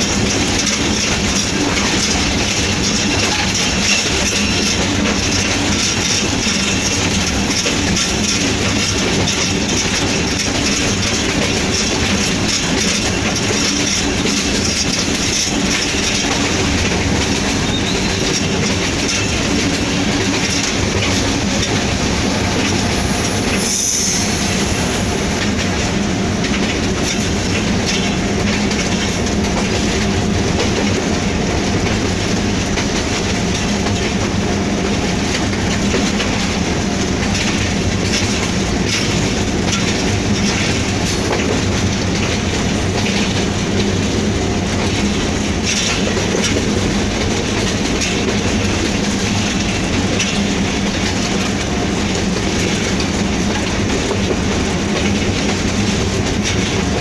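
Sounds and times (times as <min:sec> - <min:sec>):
locomotive engine noise: 0:00.0 - 0:57.0
train wheels running over track: 0:00.0 - 0:57.0.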